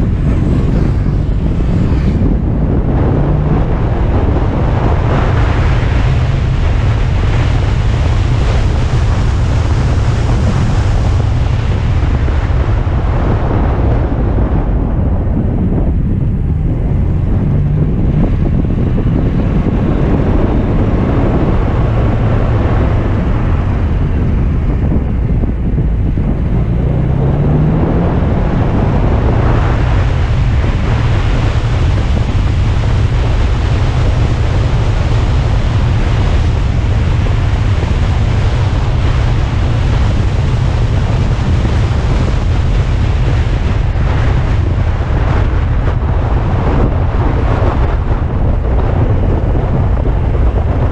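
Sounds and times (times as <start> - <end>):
car engine running: 0.0 - 50.9
wind noise on microphone: 0.0 - 50.9.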